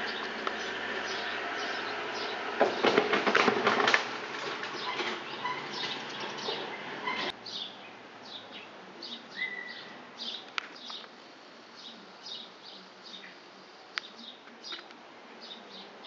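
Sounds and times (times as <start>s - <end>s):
small birds chirping: 0.0s - 3.1s, 4.4s - 16.0s.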